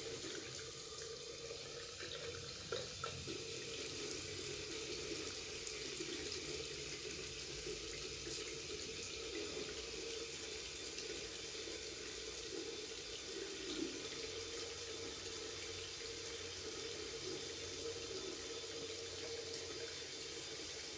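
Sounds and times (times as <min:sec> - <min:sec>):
tap water running into sink: 0:00.0 - 0:20.9.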